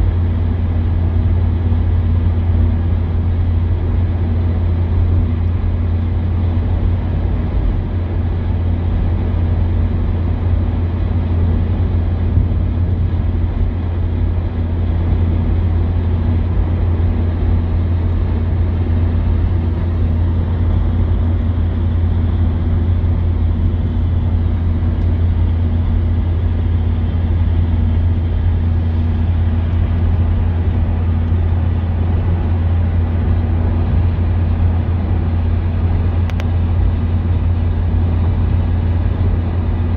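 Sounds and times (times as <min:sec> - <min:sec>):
engine drone inside moving vehicle: 0:00.0 - 0:39.9.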